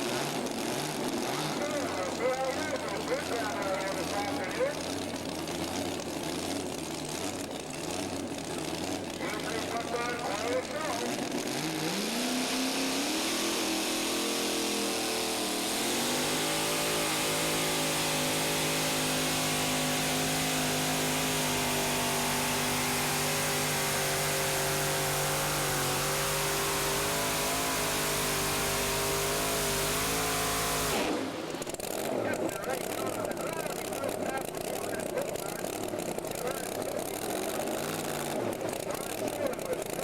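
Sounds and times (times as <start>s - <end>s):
tractor engine at full throttle: 0.0s - 40.0s.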